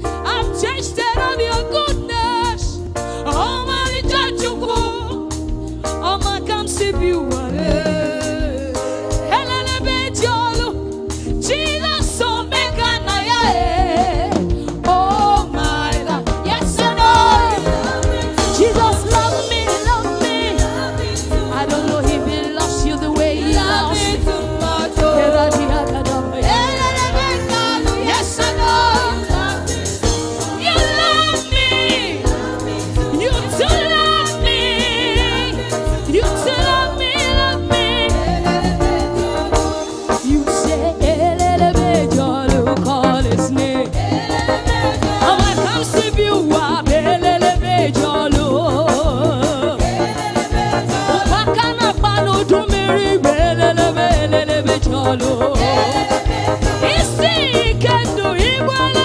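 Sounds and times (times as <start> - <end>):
gospel band with drums and bass: 0.0 - 59.0.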